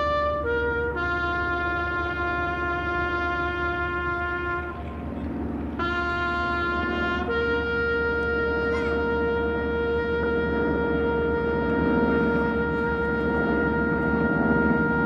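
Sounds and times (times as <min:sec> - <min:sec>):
brass horn holding notes: 0:00.0 - 0:15.0.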